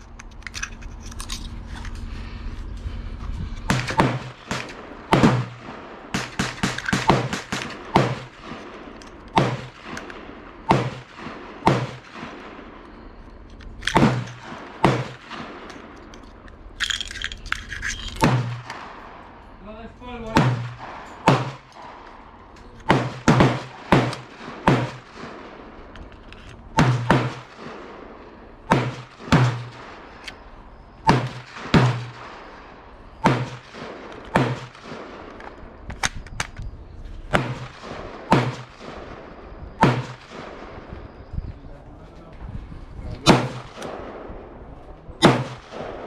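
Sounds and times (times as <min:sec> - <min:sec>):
rifle shots with echo: 0:03.7 - 0:16.4, 0:18.2 - 0:25.9, 0:26.6 - 0:36.5, 0:37.2 - 0:41.4, 0:43.2 - 0:46.0.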